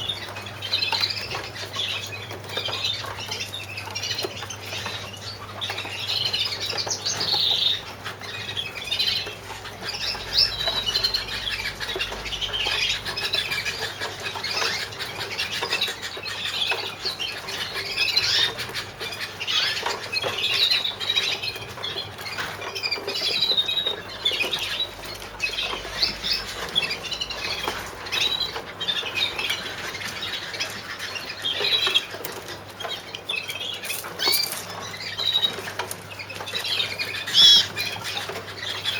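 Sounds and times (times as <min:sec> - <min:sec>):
birds clicking in cages: 0:00.0 - 0:38.9
canaries chirping: 0:00.0 - 0:38.9.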